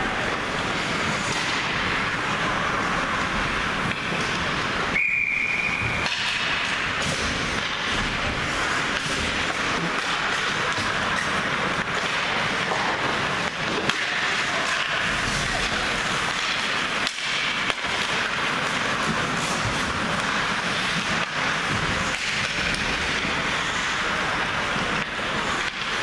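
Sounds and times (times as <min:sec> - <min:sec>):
hockey sticks clacking: 0:00.0 - 0:26.0
skate blades scraping ice: 0:00.3 - 0:26.0.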